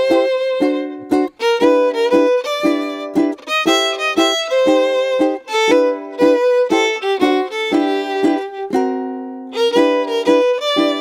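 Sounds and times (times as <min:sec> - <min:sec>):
instrumental tune of quick notes: 0:00.0 - 0:11.0.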